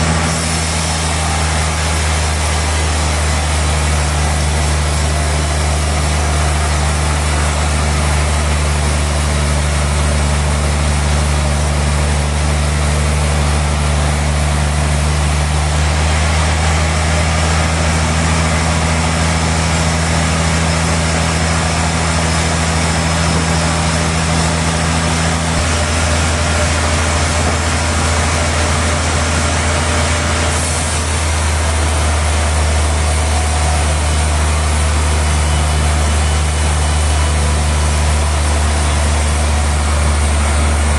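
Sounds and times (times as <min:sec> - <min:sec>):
sawmill engine drone: 0:00.0 - 0:40.9.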